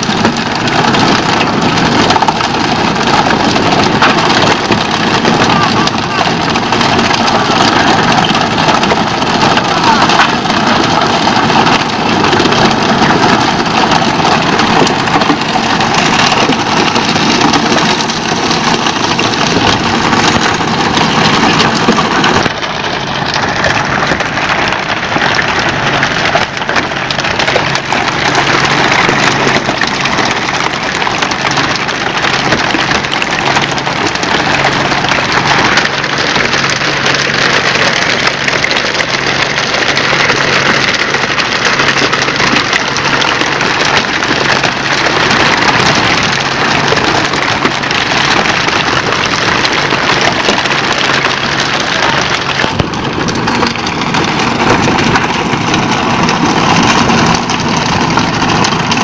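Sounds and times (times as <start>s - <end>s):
boat engine hum: 0.0s - 59.0s.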